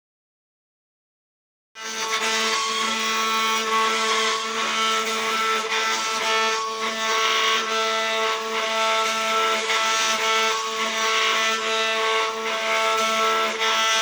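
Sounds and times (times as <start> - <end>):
router bit cutting wood: 1.8 - 14.0
router spindle whine: 1.8 - 14.0.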